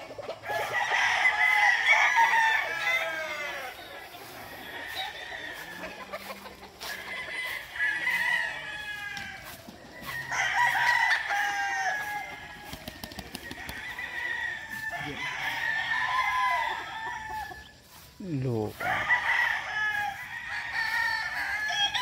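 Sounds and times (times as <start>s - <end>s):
roosters crowing: 0.0s - 22.0s.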